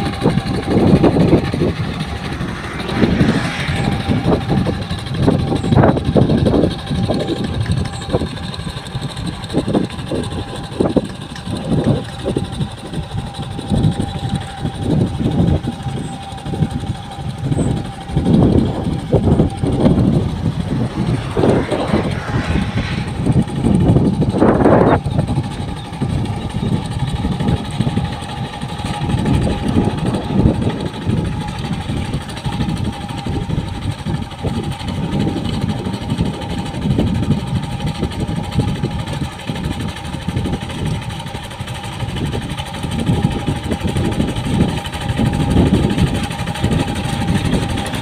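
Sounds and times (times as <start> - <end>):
hand tractor engine running: 4.7 - 20.9, 25.0 - 48.0.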